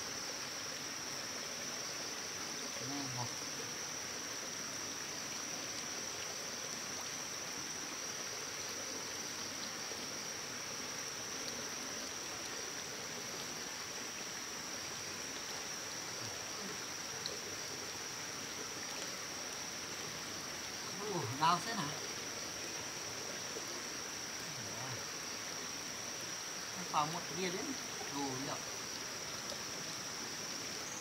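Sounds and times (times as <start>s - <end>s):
high-pitched insect drone: 0.0s - 18.6s, 19.2s - 31.0s
stream water rushing: 0.0s - 31.0s.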